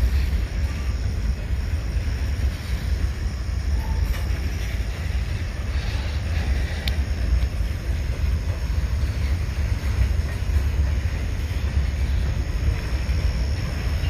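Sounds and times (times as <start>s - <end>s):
train cars rumbling on rails: 0.0s - 14.0s.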